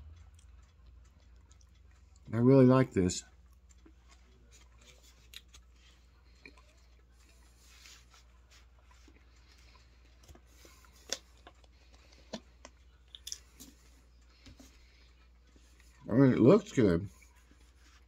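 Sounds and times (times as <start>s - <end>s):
person chewing food: 0.0s - 2.3s, 3.2s - 16.1s, 17.1s - 18.0s.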